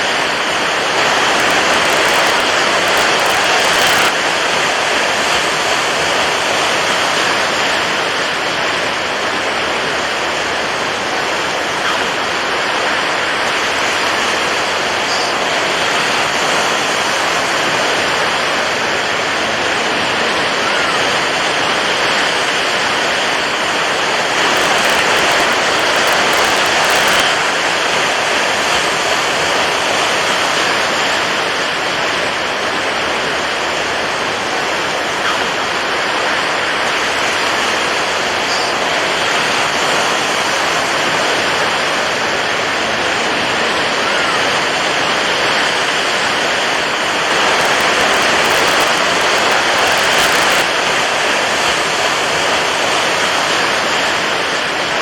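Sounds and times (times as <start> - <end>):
rushing water waves: 0.0 - 55.0.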